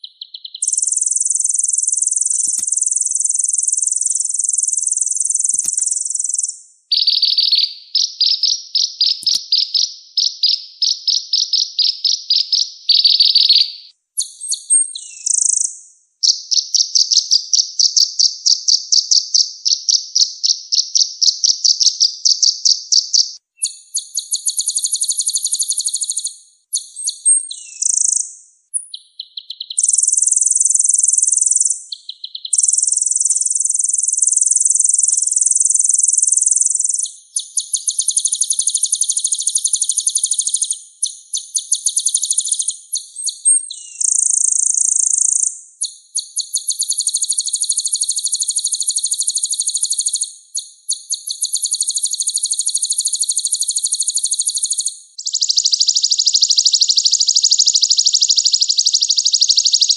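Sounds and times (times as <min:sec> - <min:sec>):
songbird trills: 0:00.0 - 0:59.9.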